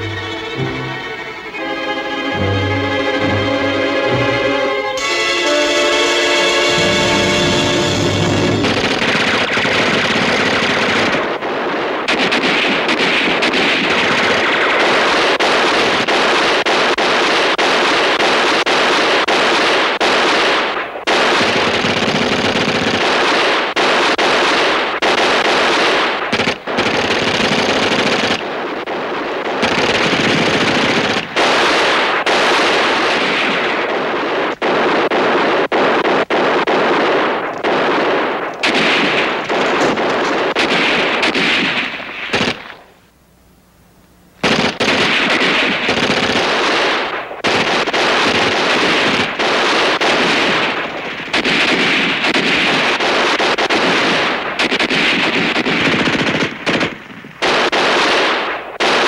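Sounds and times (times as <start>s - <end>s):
machine-gun fire: 6.8s - 43.0s, 44.4s - 59.0s
rifle shots: 6.8s - 43.0s, 44.4s - 59.0s.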